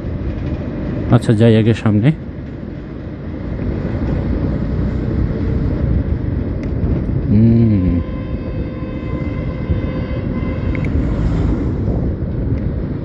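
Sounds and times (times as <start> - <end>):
wind noise: 2.3 - 13.0.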